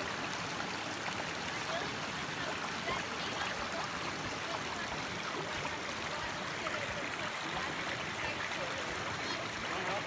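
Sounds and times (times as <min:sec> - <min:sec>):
creek rushing over rocks: 0:00.0 - 0:10.0
water trickling and gurgling: 0:00.0 - 0:10.0.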